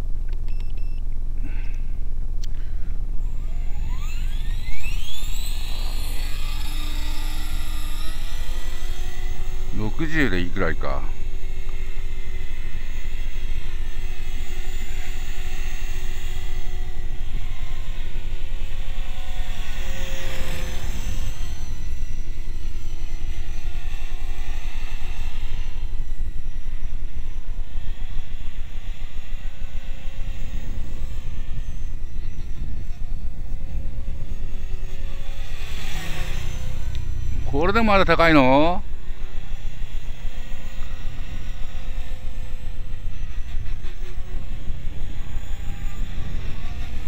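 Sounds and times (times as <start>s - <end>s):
model helicopter rotor whine: 0.0s - 47.0s.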